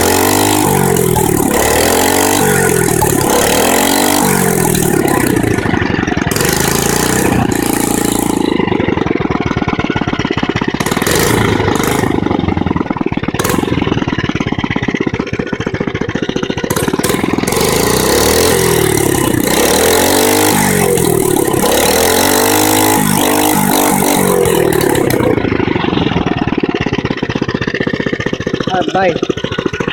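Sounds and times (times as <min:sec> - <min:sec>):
small motorbike engine revving: 0:00.0 - 0:29.9.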